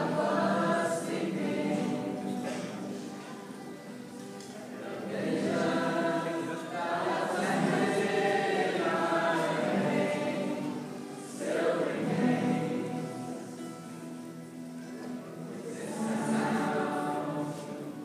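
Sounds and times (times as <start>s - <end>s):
guitar ensemble playing chords: 0.0s - 18.0s.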